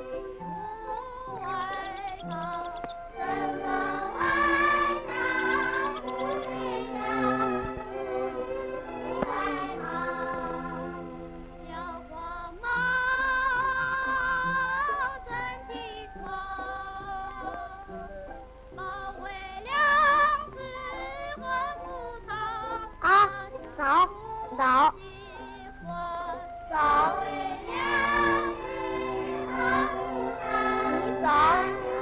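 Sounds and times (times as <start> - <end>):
person singing with accompaniment: 0.0 - 32.0.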